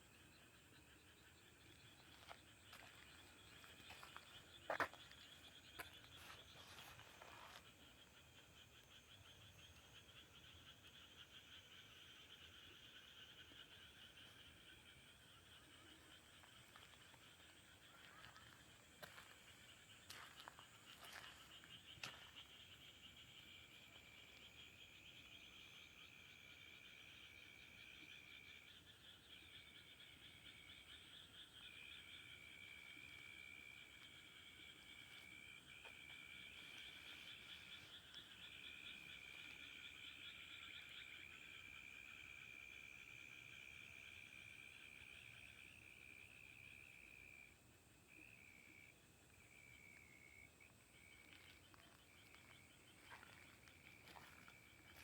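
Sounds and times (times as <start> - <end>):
crickets and insects chirping: 0.0 - 55.0
frogs: 0.0 - 55.0.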